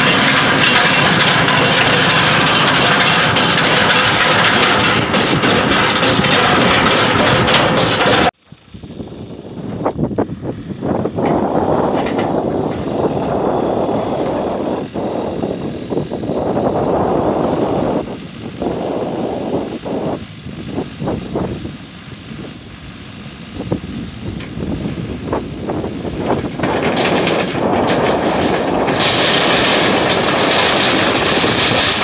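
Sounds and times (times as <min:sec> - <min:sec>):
tractor engine running: 0:00.0 - 0:32.0
wind buffeting microphone: 0:00.0 - 0:32.0.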